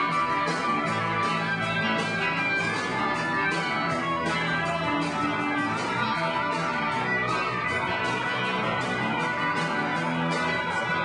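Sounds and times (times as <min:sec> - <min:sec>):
live rock band: 0:00.0 - 0:11.0.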